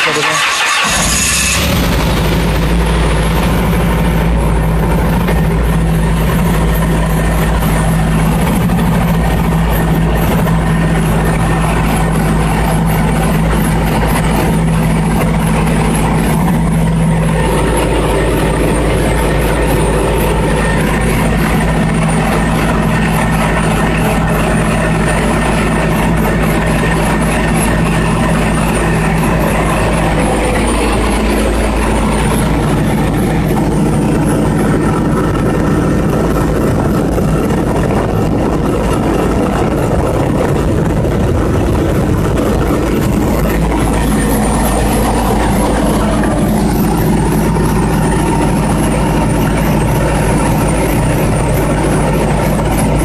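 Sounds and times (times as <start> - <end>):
generator engine running: 0.0 - 53.0.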